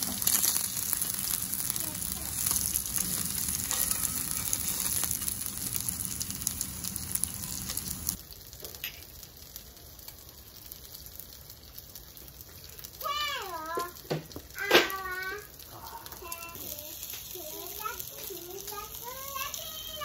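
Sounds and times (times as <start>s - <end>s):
food sizzling on a grill: 0.0s - 20.0s.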